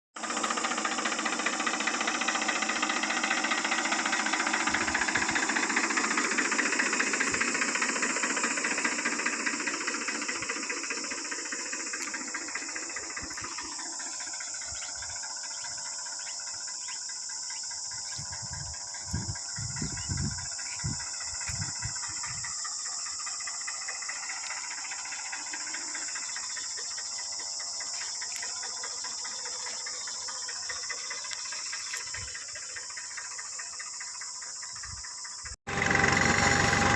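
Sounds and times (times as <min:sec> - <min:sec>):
diesel tractor engine knocking: 0:00.2 - 0:36.9.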